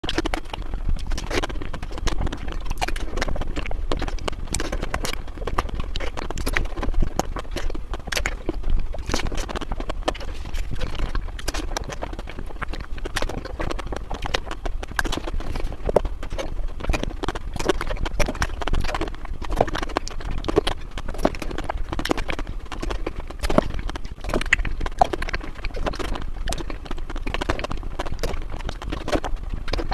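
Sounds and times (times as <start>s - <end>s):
chewing crispy ice cream: 0.0s - 29.9s.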